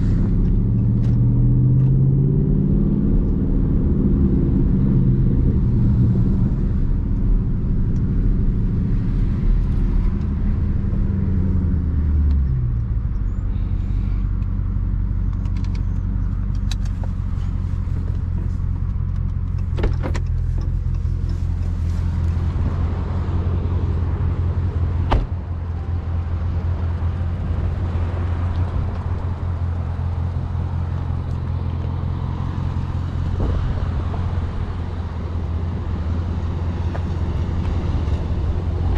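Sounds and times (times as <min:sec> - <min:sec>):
car engine droning while cruising: 0:00.0 - 0:38.9.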